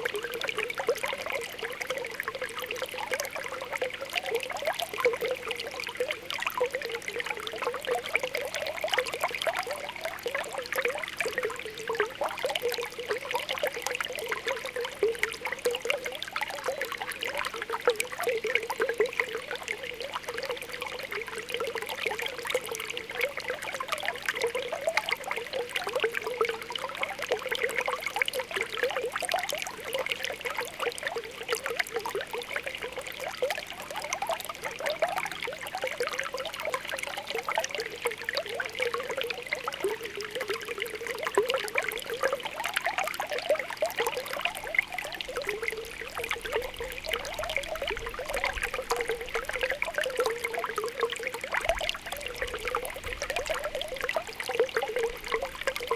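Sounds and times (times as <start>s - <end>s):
spring water bubbling: 0.0s - 55.9s.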